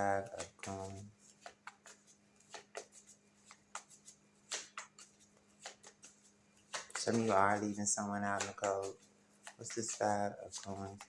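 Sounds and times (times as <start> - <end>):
cards clicking and rustling: 0.0 - 11.0
faint steady hum: 0.0 - 11.0.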